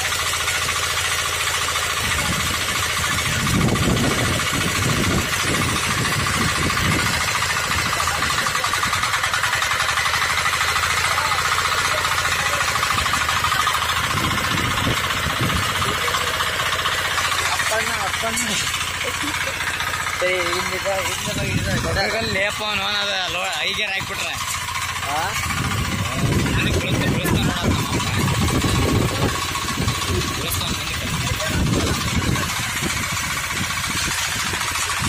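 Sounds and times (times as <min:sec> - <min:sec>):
diesel engine knocking: 0:00.0 - 0:35.0.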